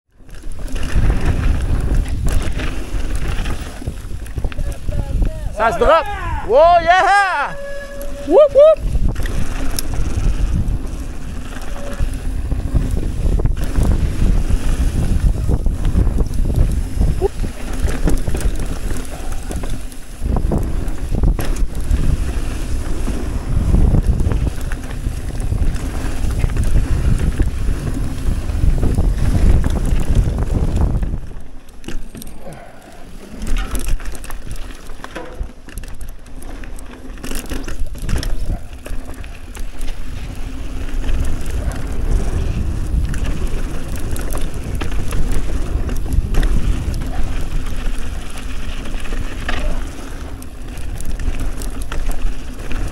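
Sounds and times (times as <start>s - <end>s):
bike knocks and rattles: 0.2s - 5.6s, 8.9s - 52.9s
wind buffeting microphone: 0.2s - 31.6s, 37.6s - 52.9s
tyres rumbling on dirt: 0.2s - 52.9s.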